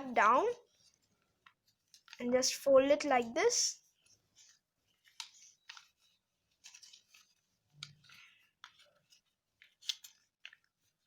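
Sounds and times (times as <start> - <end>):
paper being folded and creased: 0.4 - 11.0.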